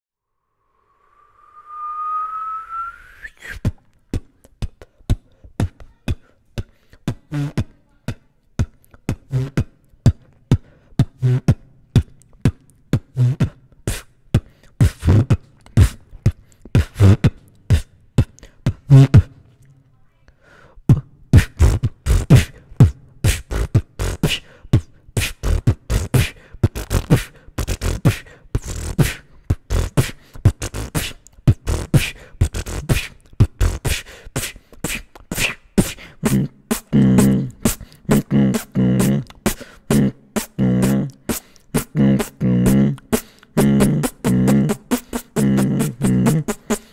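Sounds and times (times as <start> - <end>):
person beatboxing: 3.3 - 19.5, 20.8 - 46.9.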